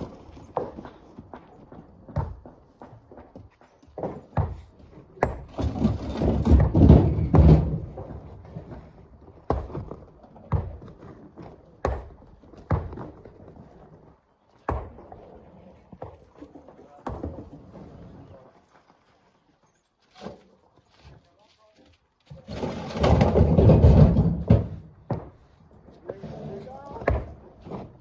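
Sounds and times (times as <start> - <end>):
rocks knocking and clattering: 0.0 - 18.0, 22.2 - 28.0.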